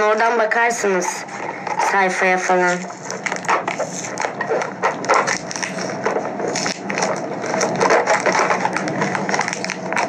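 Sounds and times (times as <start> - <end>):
plastic packaging crinkling: 1.2 - 10.0.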